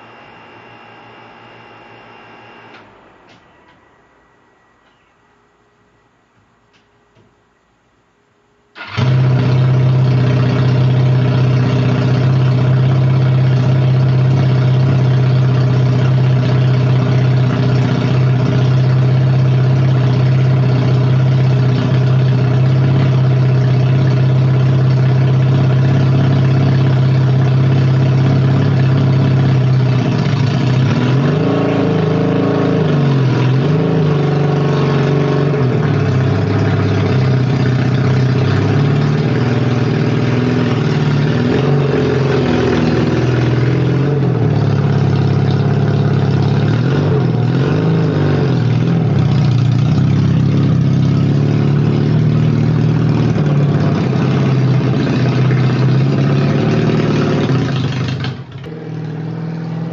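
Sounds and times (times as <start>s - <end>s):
car engine revving: 8.8s - 59.9s
two-stroke car engine idling: 8.8s - 59.9s.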